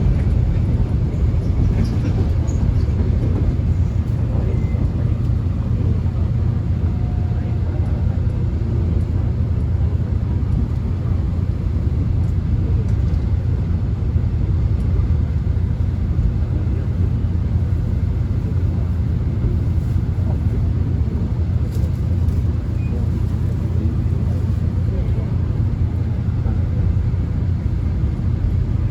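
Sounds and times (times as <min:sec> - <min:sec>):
subway train rumbling: 0:00.0 - 0:28.9.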